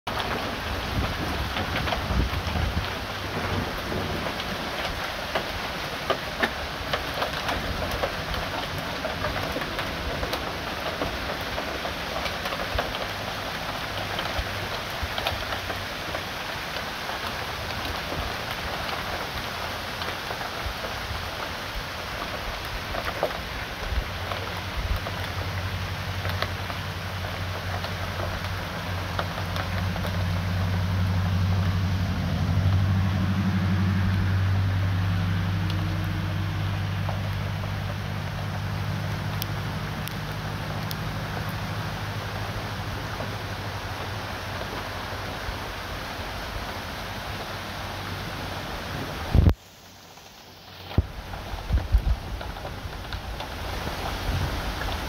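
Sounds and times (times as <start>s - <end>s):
hailstones falling: 0.1s - 32.9s, 35.4s - 47.5s, 48.1s - 55.0s.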